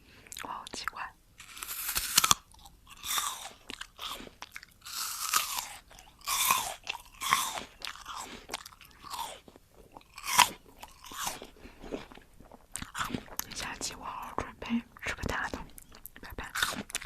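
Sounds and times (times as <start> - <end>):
crunchy fruit chewing: 0.2 - 14.3, 15.3 - 17.0.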